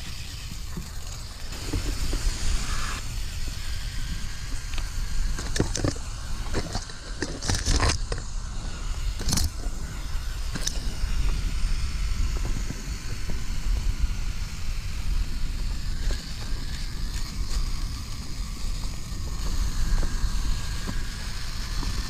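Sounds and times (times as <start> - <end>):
rc car electric motor running: 0.0 - 22.0.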